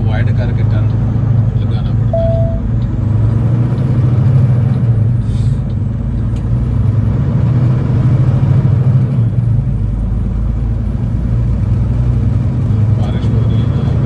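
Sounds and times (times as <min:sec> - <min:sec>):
truck diesel engine droning: 0:00.2 - 0:14.0.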